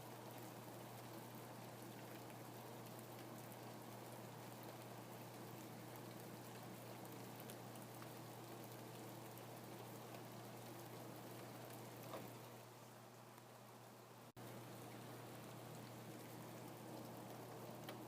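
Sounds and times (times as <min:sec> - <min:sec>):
faint rain falling: 0:00.0 - 0:18.0.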